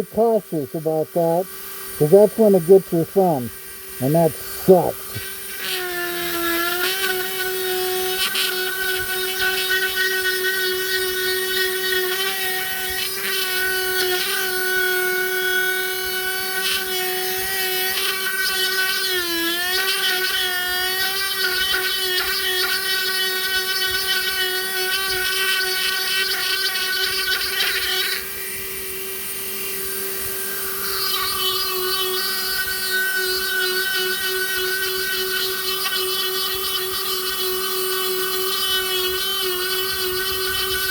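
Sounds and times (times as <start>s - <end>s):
rotary tool whining: 0.0s - 40.9s
tool grinding wood: 0.0s - 40.9s.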